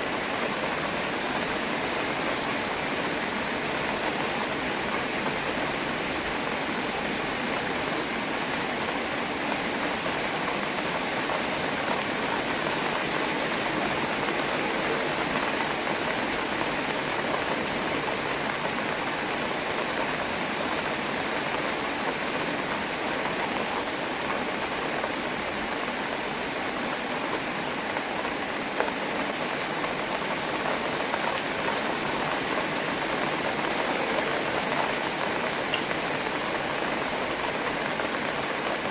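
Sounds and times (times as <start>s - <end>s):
rain falling on a pond: 0.0s - 38.9s.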